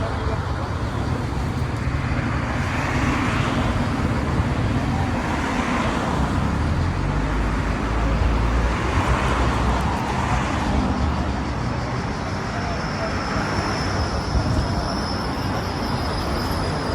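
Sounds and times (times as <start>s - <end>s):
road traffic noise: 0.0s - 16.9s.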